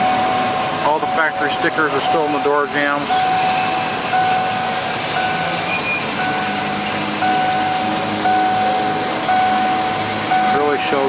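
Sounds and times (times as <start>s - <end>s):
car warning chime beeping: 0.0s - 11.0s.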